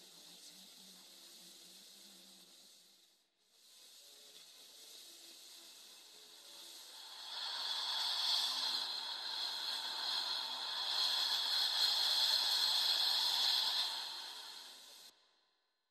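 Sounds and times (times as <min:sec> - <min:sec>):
hiss of noise: 0:00.0 - 0:15.5.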